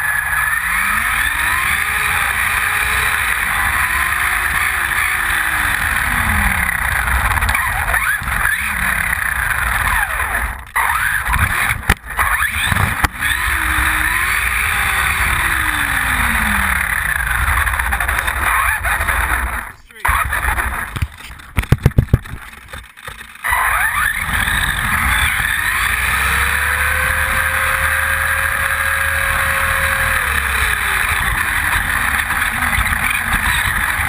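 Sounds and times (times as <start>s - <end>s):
small tyres rumbling on asphalt: 0.0s - 34.0s
toy truck motor whining: 0.0s - 34.0s.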